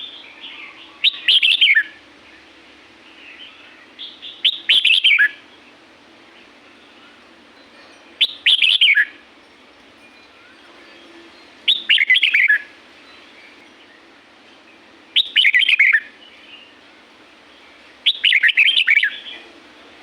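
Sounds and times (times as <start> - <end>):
bird singing: 0.0 - 2.5, 3.1 - 5.7, 6.4 - 9.2, 10.2 - 16.8, 17.5 - 19.6.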